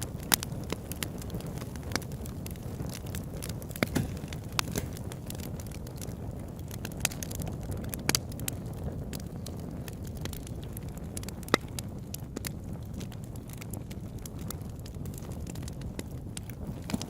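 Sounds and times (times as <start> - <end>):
campfire flames rumbling: 0.0 - 17.0
fire crackles and pops: 0.0 - 17.0.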